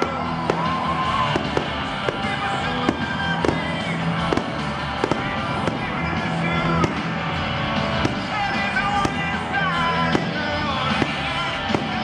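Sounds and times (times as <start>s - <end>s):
background music: 0.0s - 12.0s
fireworks bangs: 0.0s - 12.0s.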